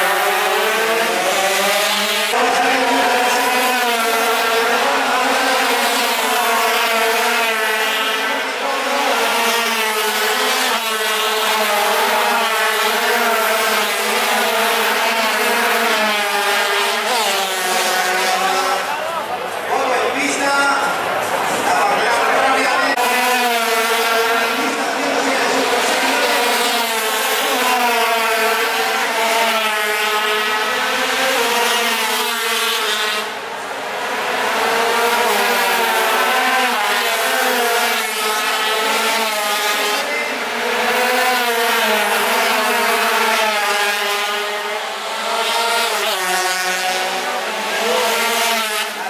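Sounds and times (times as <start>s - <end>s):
racing motorcycle engines revving: 0.0s - 49.0s.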